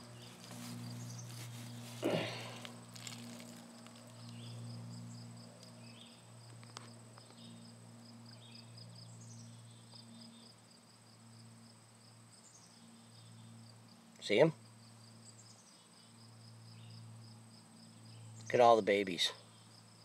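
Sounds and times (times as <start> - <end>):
cricket chirping: 0.0 - 18.5, 19.3 - 20.0
low steady hum: 0.0 - 18.5.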